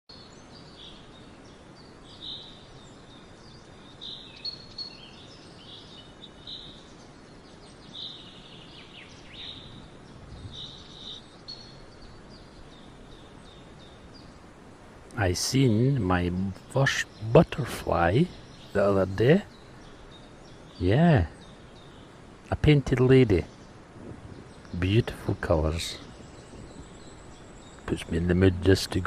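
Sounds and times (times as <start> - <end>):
small birds chirping and trilling: 0.1 - 29.0
steady background hiss: 0.1 - 29.0.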